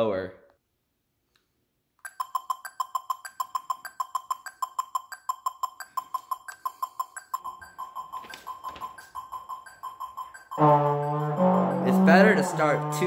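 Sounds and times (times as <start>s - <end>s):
metronome beeps: 2.0s - 13.0s.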